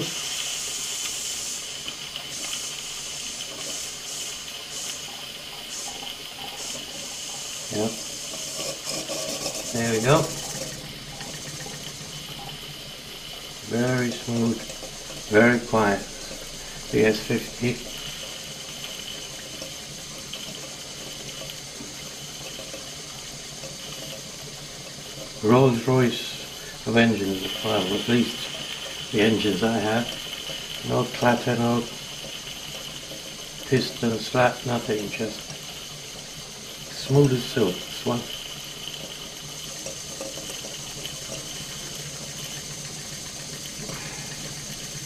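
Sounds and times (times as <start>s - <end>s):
puffs of steam: 0.0s - 45.0s
steam hissing through engine: 0.0s - 45.0s.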